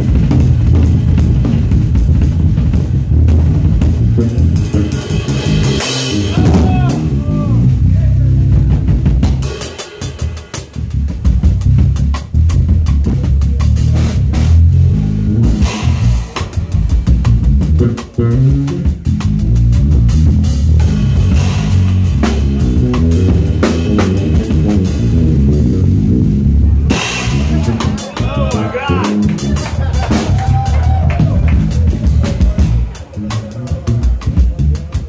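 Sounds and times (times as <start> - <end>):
drum solo: 0.0 - 35.0
electric bass guitar: 0.0 - 35.0.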